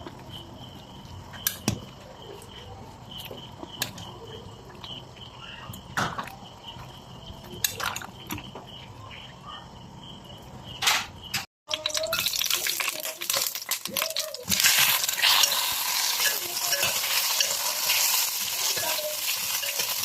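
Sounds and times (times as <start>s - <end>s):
cricket chirping: 0.0s - 11.5s, 12.3s - 20.0s.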